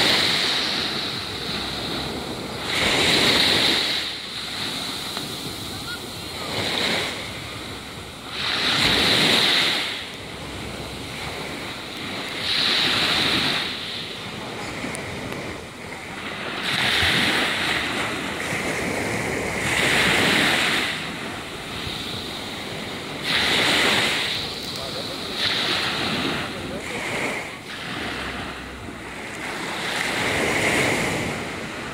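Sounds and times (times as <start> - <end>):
small waves breaking on sand: 0.0 - 31.9.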